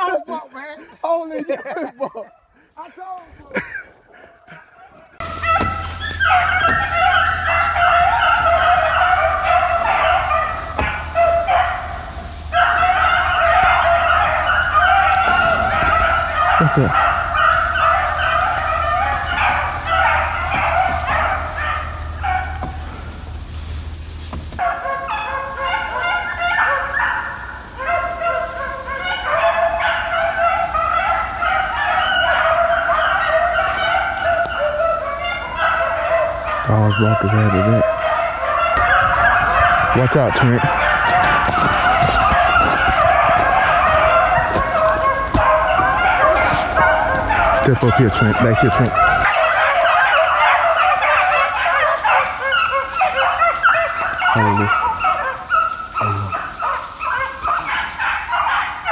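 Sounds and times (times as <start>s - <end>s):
dogs baying: 0.0s - 58.9s.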